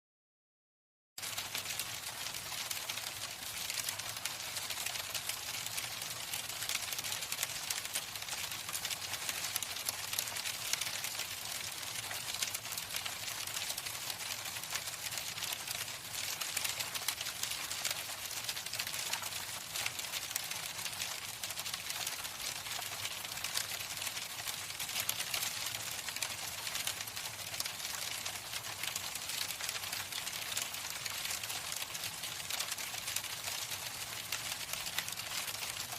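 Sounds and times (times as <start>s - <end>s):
hail rattling: 1.4s - 35.9s.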